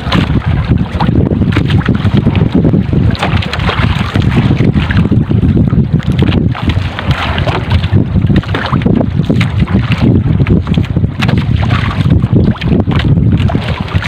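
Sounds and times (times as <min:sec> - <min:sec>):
choppy water against boat: 0:00.0 - 0:14.0
wind buffeting microphone: 0:00.0 - 0:14.0.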